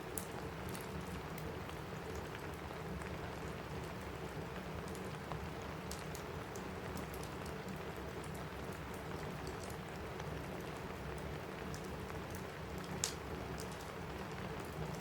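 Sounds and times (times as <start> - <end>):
rain falling on a roof: 0.0 - 15.0.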